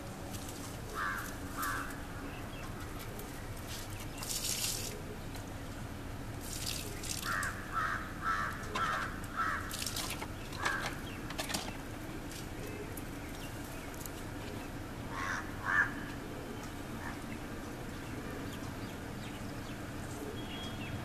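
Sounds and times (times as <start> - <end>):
bird calling: 0.9 - 5.4, 6.8 - 21.0.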